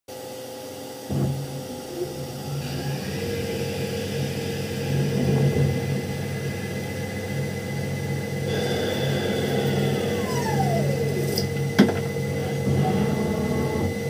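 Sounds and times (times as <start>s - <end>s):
lathe humming with whine: 0.1s - 14.0s.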